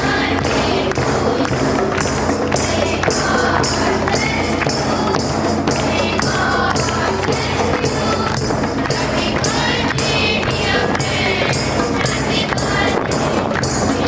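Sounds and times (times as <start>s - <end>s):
music with steady beat: 0.0s - 14.0s
voices singing together: 0.0s - 14.0s.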